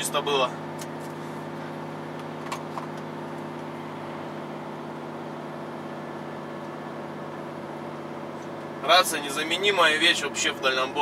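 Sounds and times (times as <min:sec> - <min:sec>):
road noise: 0:00.0 - 0:11.0
truck diesel engine drone: 0:00.0 - 0:11.0.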